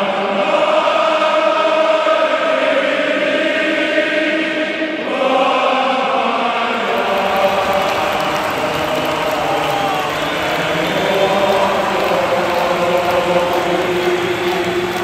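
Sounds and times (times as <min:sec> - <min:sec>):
group chanting in long notes: 0:00.0 - 0:15.0.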